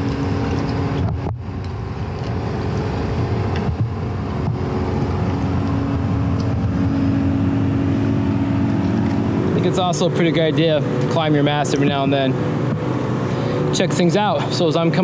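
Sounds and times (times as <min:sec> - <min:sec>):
boat engine humming: 0:00.0 - 0:15.0
low rumble: 0:00.0 - 0:15.0.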